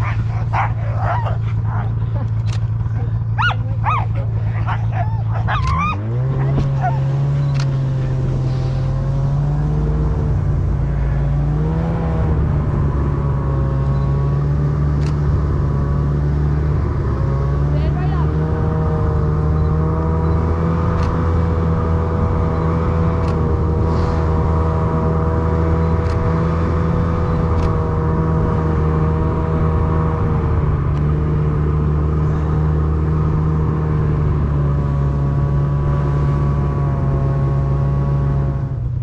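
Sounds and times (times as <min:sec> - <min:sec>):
snowmobile engine running: 0:00.0 - 0:39.0.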